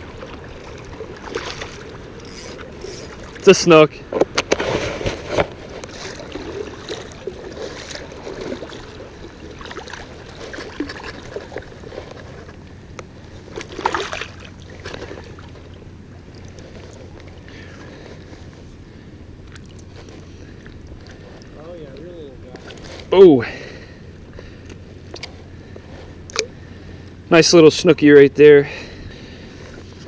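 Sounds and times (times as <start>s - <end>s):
water sloshing and splashing: 0.0s - 27.2s.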